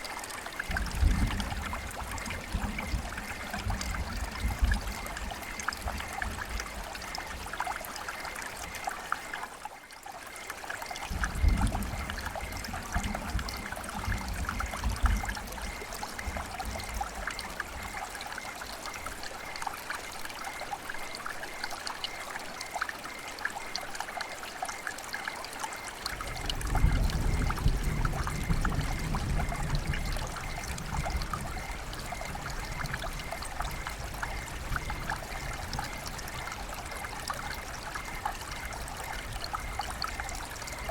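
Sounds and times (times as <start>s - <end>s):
river babbling over stones: 0.0s - 40.9s.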